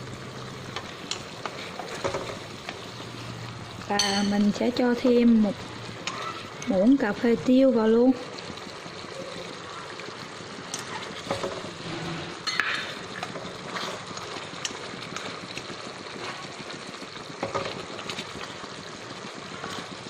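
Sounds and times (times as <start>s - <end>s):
fish sizzling in a pan: 0.0s - 20.0s.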